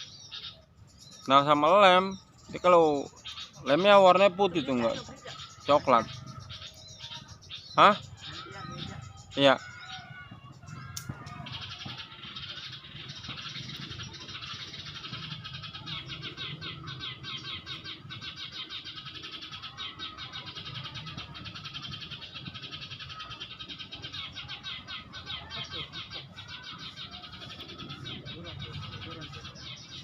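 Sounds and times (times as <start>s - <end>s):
rapid bird chirping: 0.0s - 30.0s.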